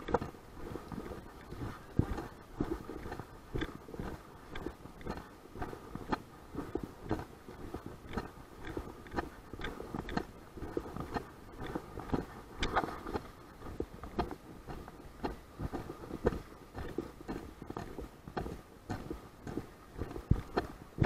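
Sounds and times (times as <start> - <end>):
footsteps walking: 0.0 - 21.0.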